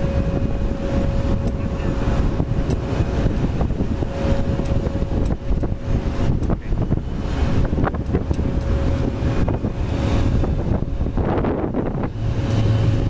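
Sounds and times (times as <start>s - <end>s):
jet airliner engine whine: 0.0s - 13.0s
wind rumbling on microphone: 0.0s - 13.0s.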